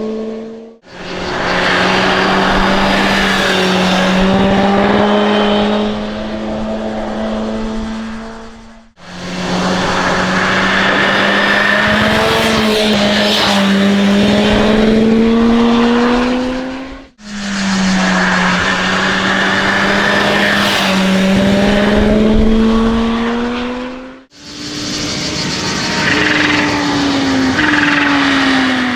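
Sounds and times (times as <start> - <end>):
motorcycle engine accelerating: 0.0 - 28.9
rushing wind: 0.8 - 28.9.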